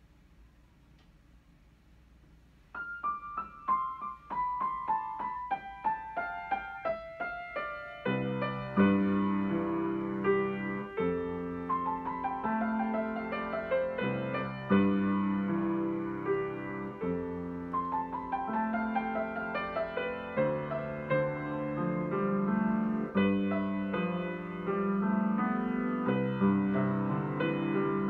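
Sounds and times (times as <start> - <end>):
grand piano playing: 2.7 - 28.0.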